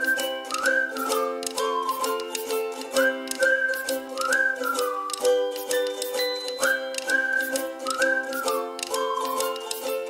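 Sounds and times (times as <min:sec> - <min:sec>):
strummed plucked strings: 0:00.0 - 0:10.0.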